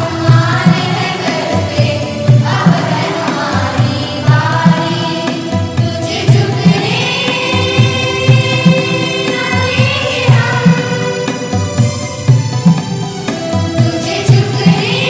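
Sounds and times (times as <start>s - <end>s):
children singing: 0.0s - 11.7s, 13.3s - 15.0s
music with a steady beat: 0.0s - 15.0s.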